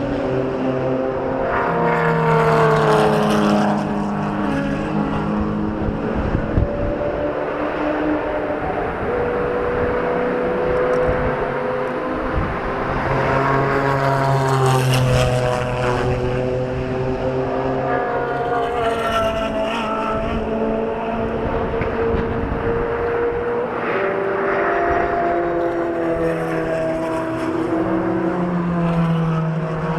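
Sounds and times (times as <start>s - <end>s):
sports car engines running: 0.0s - 29.9s.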